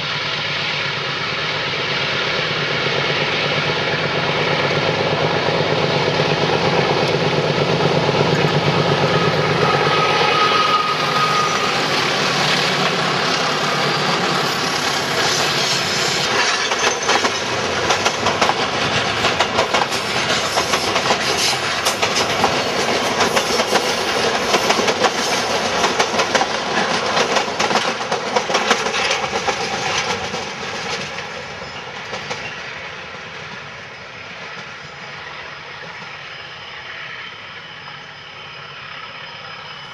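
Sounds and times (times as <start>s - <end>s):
locomotive engine noise: 0.0s - 39.9s
train wheels clacking over rail joints: 2.7s - 35.0s.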